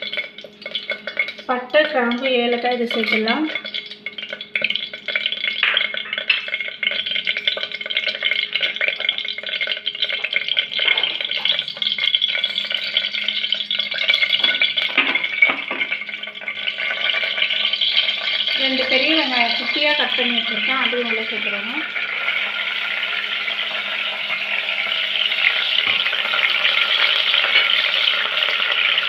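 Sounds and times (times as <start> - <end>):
faint steady hum: 0.0 - 29.0
spices sizzling in hot oil: 0.0 - 29.0.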